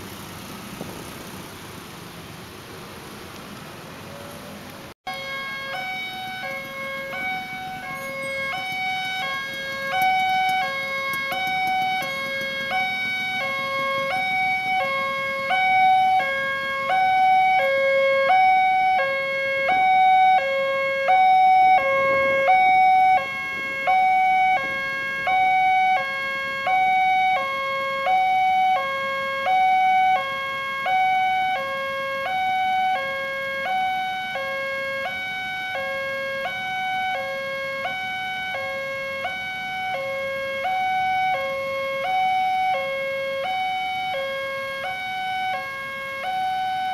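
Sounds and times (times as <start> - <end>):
two-tone crossing warning alarm: 4.2 - 46.9.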